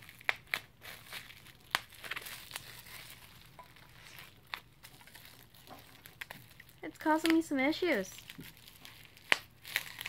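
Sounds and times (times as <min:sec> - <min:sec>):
bubble wrap crinkling: 0:00.0 - 0:10.0
sharp crackles: 0:00.0 - 0:10.0.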